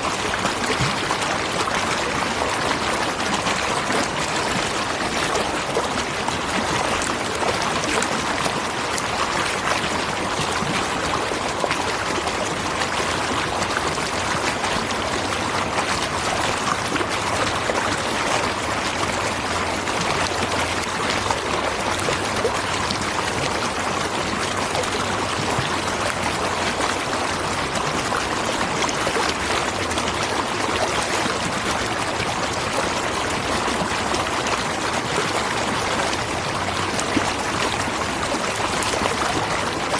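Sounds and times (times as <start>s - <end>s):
waterfall splashing and rushing: 0.0s - 39.9s.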